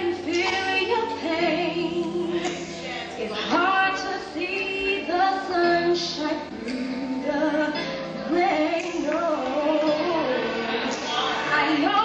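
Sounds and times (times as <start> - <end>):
woman singing slow melody: 0.0 - 10.5, 11.2 - 12.0.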